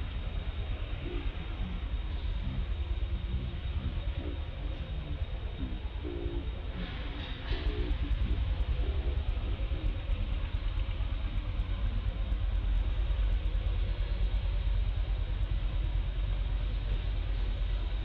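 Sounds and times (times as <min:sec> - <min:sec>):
low fluttering rumble: 0:00.0 - 0:18.0.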